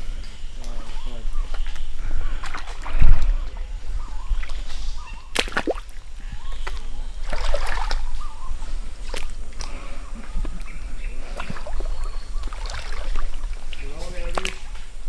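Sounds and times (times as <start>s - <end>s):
boots wading through water: 0.0s - 15.0s.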